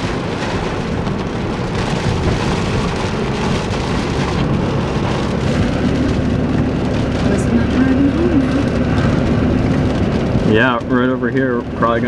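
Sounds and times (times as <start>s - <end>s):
low rumble: 0.0s - 12.0s
rain beating on a car: 0.0s - 12.0s.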